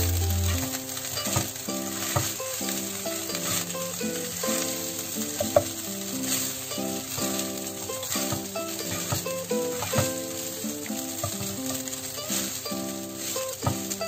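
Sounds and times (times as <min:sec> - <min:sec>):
background music: 0:00.0 - 0:14.0
rice sizzling in a wok: 0:00.0 - 0:14.0
spatula scraping and knocking pan: 0:00.0 - 0:14.0.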